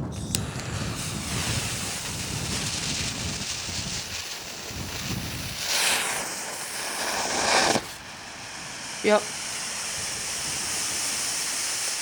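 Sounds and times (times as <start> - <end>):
smoke ball hissing: 0.0 - 12.0
wind buffeting microphone: 0.0 - 12.0.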